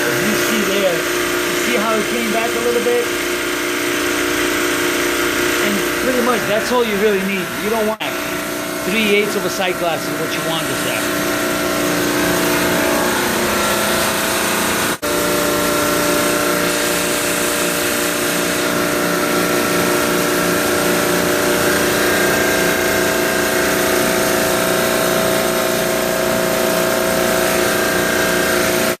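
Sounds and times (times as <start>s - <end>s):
compressor humming with fast pulsing: 0.0s - 29.0s.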